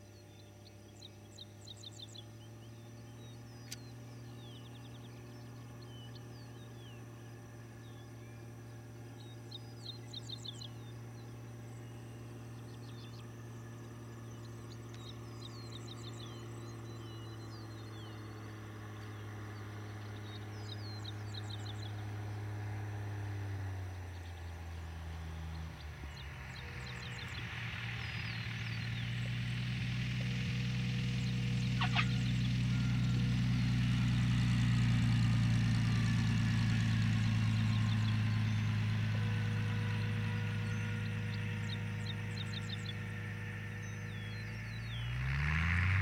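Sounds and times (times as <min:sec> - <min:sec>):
birds chirping: 0:00.0 - 0:46.0
light airplane engine droning: 0:00.0 - 0:46.0.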